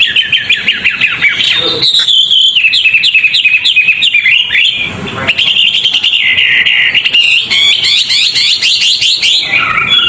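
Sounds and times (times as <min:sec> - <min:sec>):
songbird singing fast whistled notes: 0:00.0 - 0:10.0.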